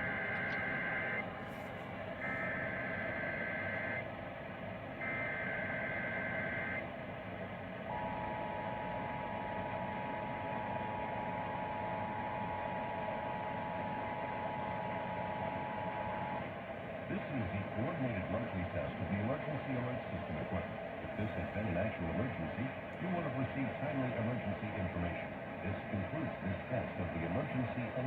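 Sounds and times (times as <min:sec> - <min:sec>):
radio static: 0:00.0 - 0:04.0, 0:05.0 - 0:06.8, 0:07.9 - 0:28.0.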